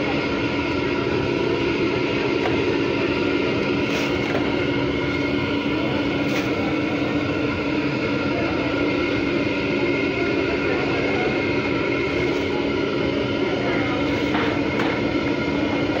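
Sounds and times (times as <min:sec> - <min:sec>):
burner flame roaring: 0:00.0 - 0:16.0.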